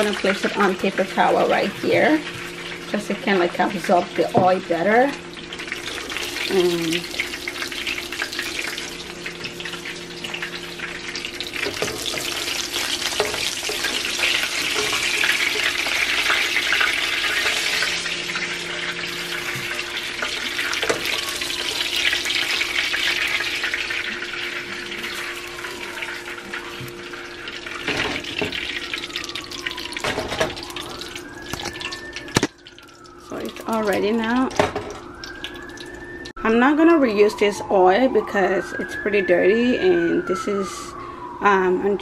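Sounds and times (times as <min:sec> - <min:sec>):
hot oil sizzling in a pan: 0:00.0 - 0:36.3.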